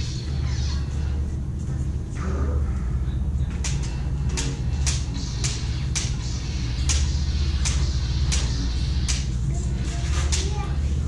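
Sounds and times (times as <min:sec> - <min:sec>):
low steady lightsaber hum: 0:00.0 - 0:11.0.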